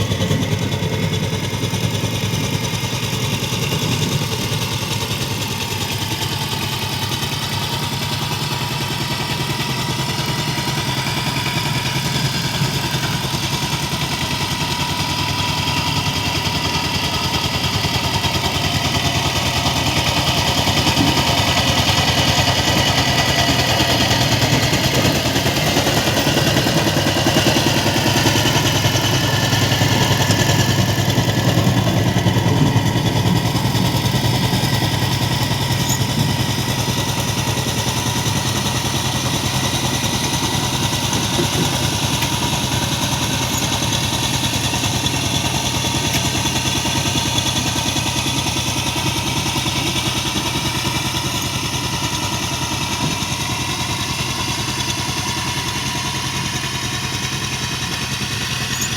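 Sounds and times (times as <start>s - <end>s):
tiller engine chugging: 0.0s - 58.9s.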